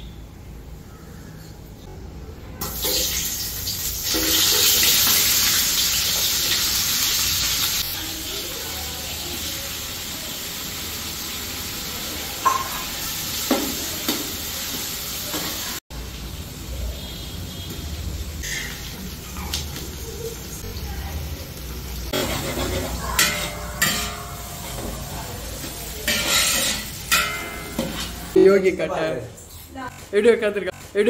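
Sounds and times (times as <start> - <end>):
food sizzling in hot oil: 2.6 - 28.4.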